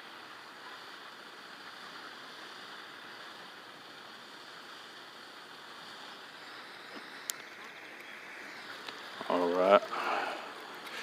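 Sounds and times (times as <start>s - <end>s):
steady outdoor rushing noise: 0.0s - 11.0s.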